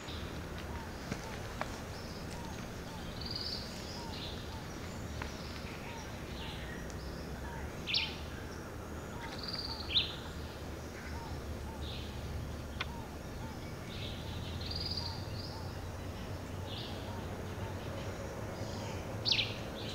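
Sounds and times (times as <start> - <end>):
bird calls: 0.0 - 19.9
steady low rumble: 0.0 - 19.9.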